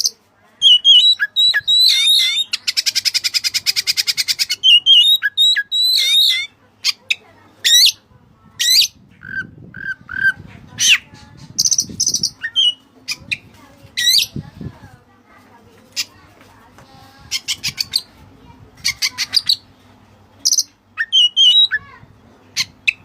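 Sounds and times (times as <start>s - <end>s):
songbird singing: 0.0s - 14.7s, 17.0s - 18.2s, 18.8s - 19.7s, 20.4s - 23.0s.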